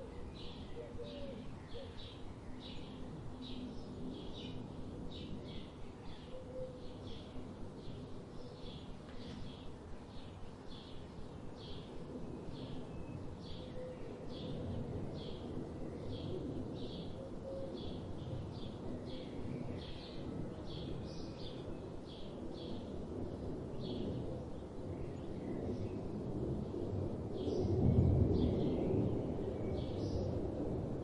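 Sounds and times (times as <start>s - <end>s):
low rumble of background noise: 0.0s - 31.0s.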